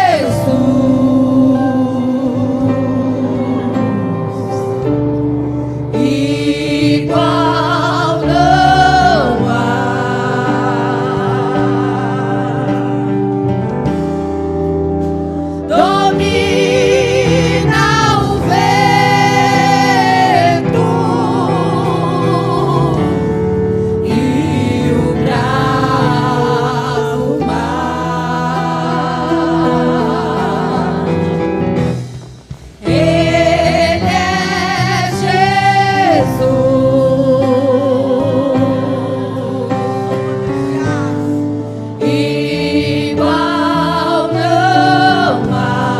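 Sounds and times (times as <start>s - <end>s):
women's group singing gospel: 0.0s - 4.9s, 5.9s - 13.5s, 15.6s - 32.0s, 32.7s - 45.9s
instrumental accompaniment: 0.0s - 45.9s.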